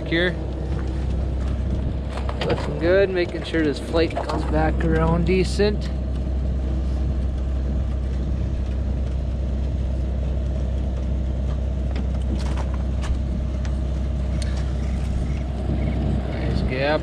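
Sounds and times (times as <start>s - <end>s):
machine drone: 0.0s - 17.0s.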